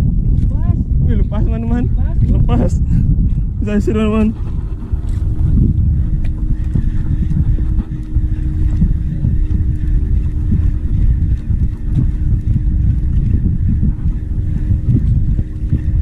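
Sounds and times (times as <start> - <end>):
motor hum: 0.0 - 16.0
wind buffeting microphone: 0.0 - 16.0.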